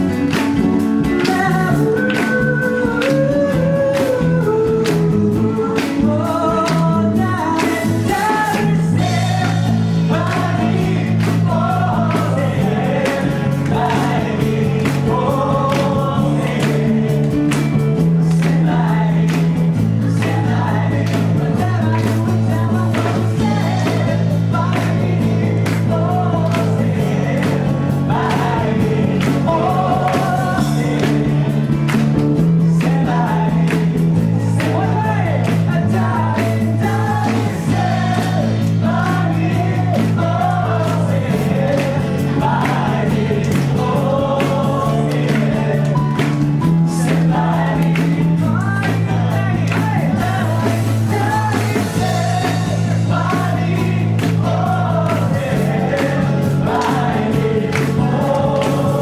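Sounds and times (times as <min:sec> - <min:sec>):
man singing into microphone: 0:00.0 - 0:17.4, 0:18.1 - 0:31.8, 0:32.6 - 0:46.2, 0:46.8 - 0:59.0
deep held bass notes: 0:00.0 - 0:59.0.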